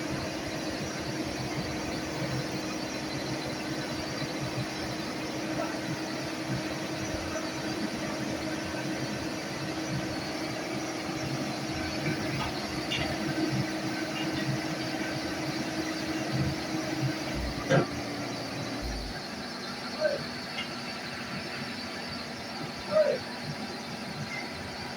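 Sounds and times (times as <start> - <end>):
heavy machine engine running: 0.0 - 24.9.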